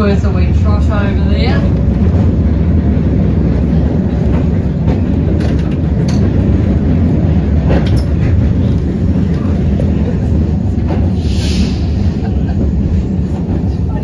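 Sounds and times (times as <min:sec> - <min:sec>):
tram rumbling on rails: 0:00.0 - 0:14.0.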